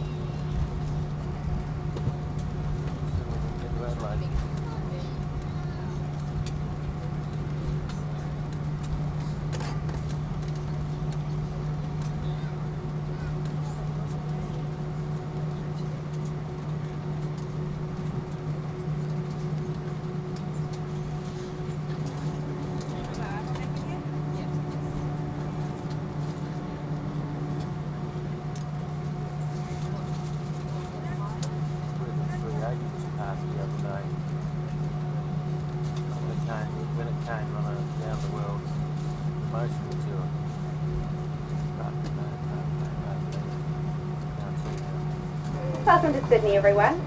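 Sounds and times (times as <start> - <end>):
airliner cabin noise: 0.0 - 47.0
engine and air system hum: 0.0 - 47.0
low rumble: 0.0 - 47.0.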